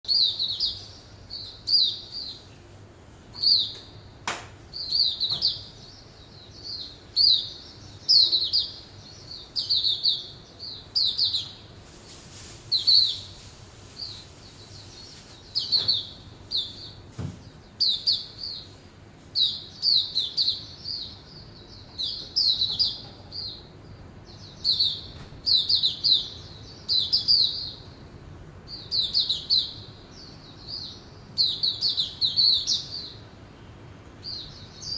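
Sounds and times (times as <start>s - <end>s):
bird high chirping: 0.0s - 2.7s, 3.3s - 28.0s, 28.7s - 33.4s, 34.2s - 34.9s.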